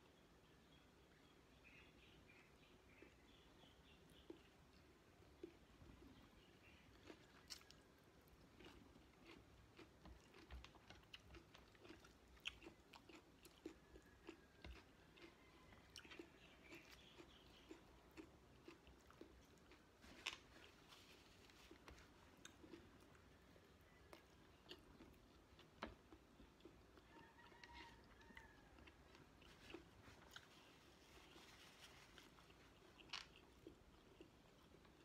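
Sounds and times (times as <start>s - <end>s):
chewing with wet mouth clicks: 2.9s - 20.7s, 21.5s - 30.6s, 32.2s - 35.0s.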